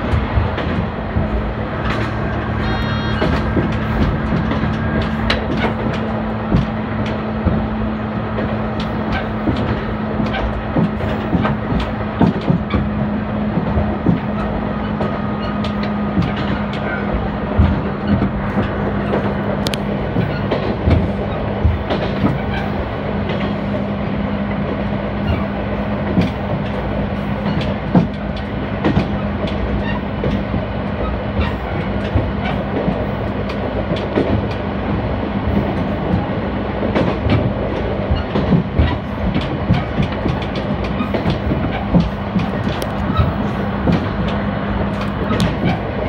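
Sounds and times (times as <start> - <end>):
diesel engine drone: 0.0 - 46.0
wheel and track noise: 0.0 - 46.0
wheels clacking over rails: 0.0 - 46.0.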